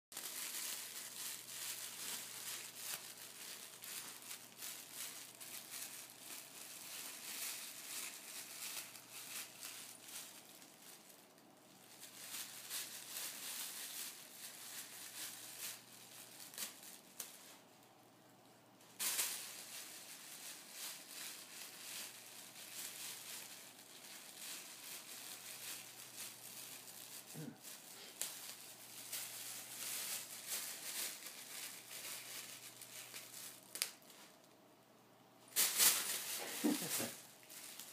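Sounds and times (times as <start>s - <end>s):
plastic bag crinkling: 0.1s - 17.8s, 18.8s - 34.6s, 35.4s - 37.9s.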